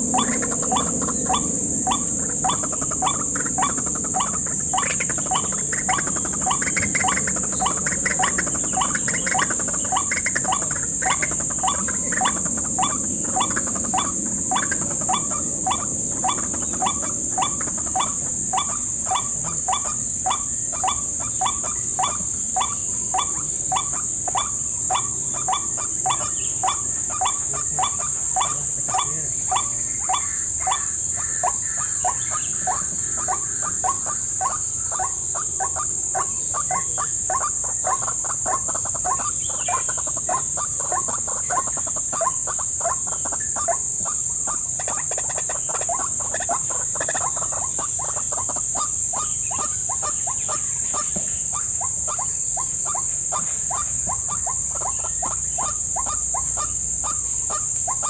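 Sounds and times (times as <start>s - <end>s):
high insect drone: 0.0s - 58.0s
waterhen calling: 0.0s - 58.0s.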